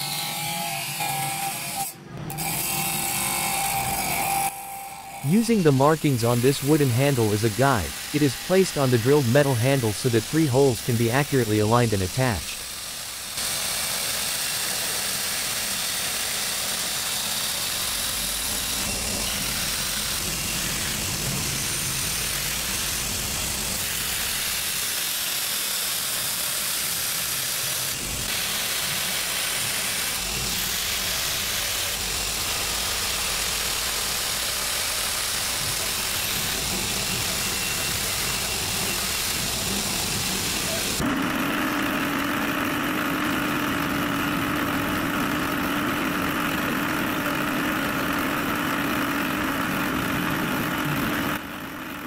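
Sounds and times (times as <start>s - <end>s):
grinder motor running: 2.3s - 52.0s.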